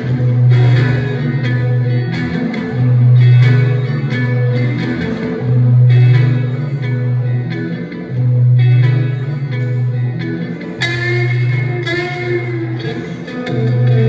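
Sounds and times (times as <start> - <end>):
high guitar lead notes: 0.0 - 14.0
looped low guitar pattern: 0.0 - 14.0.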